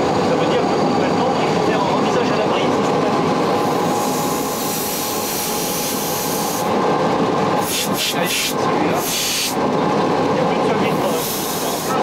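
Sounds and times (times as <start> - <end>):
locomotive rumbling on track: 0.0 - 12.0.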